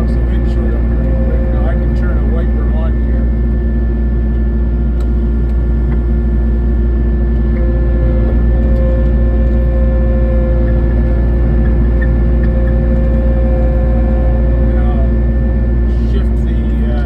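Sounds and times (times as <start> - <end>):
diesel engine under load: 0.0 - 17.0
hydraulic whines: 0.0 - 17.0.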